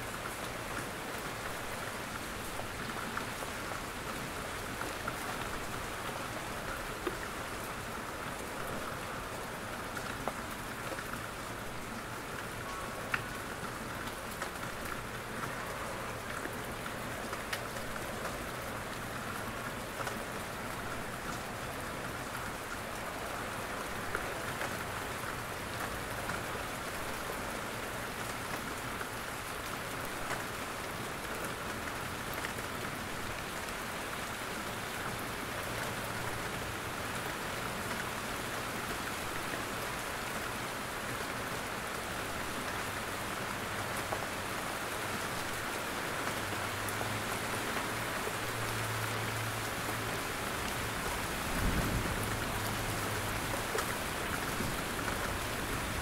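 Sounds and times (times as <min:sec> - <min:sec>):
rain pattering from trees: 0:00.0 - 0:56.0.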